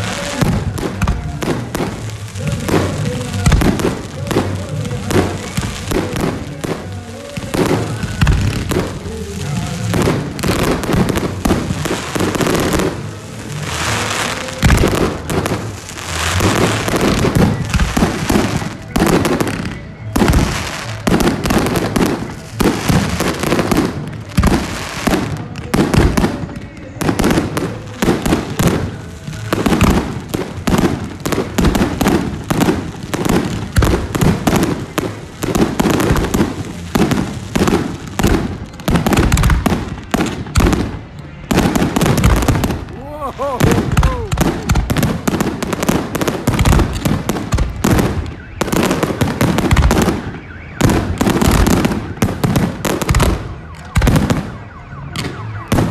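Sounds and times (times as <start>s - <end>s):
fireworks bursting with bangs and crackles: 0.0s - 55.9s.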